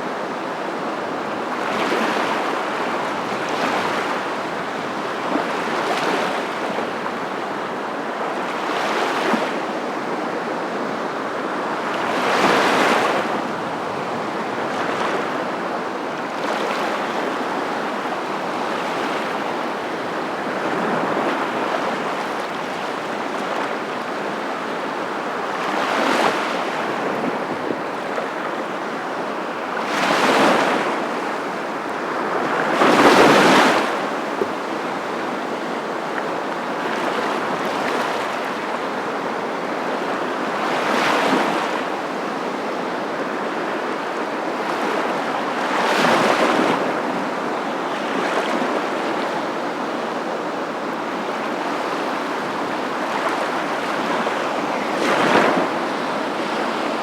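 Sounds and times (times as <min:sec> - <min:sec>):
waves breaking and washing in: 0:00.0 - 0:57.0.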